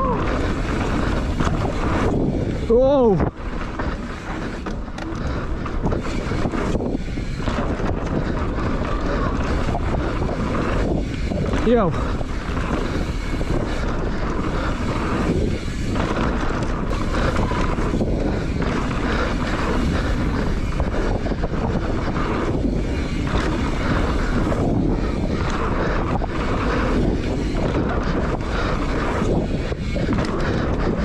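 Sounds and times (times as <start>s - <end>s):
bike rattling over bumps: 0.0s - 31.0s
bike tyres rolling on dirt: 0.0s - 31.0s
wind on microphone: 0.0s - 31.0s.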